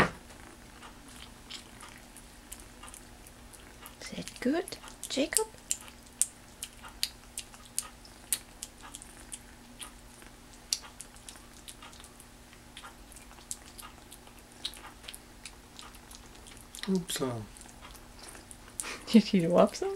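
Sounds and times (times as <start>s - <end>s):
kitten licking and chewing food: 0.3s - 19.9s.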